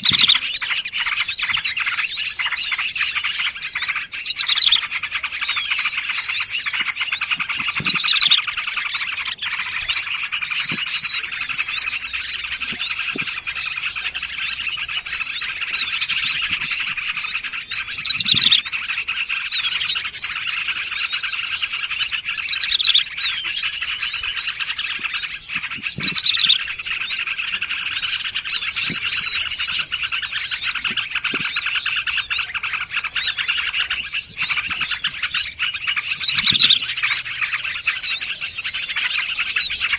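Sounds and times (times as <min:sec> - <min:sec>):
faint low bird calls: 0:00.0 - 0:39.9
songbirds chirping and trilling: 0:00.0 - 0:39.9.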